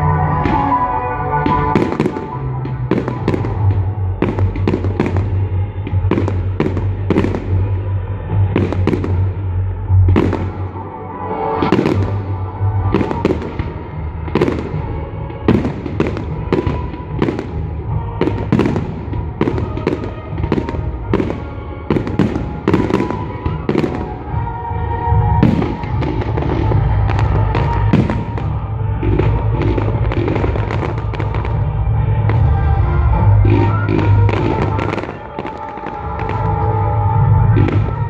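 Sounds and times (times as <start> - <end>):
fireworks bangs and crackles: 0.0 - 10.9, 11.6 - 38.0
music playing: 0.0 - 38.0.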